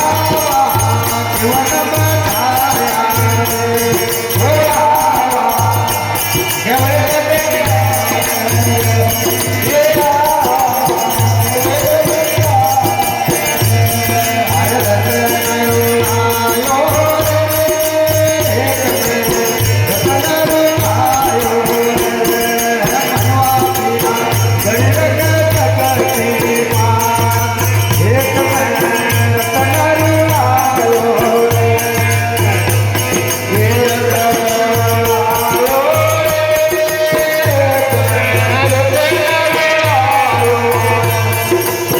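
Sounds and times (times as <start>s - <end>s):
chant-like singing: 0.0s - 41.9s
jingling hand percussion: 0.0s - 41.9s.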